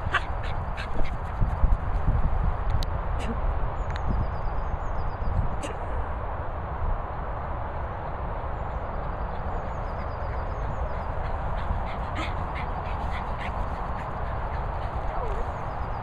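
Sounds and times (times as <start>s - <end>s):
steady background noise: 0.0s - 16.0s
wind rumbling on microphone: 0.0s - 16.0s.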